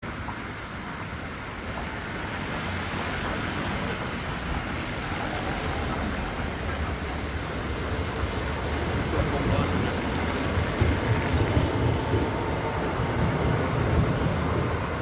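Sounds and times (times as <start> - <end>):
low traffic rumble: 0.0 - 15.0
rain: 0.0 - 15.0
tyres hissing on wet road: 0.1 - 15.0.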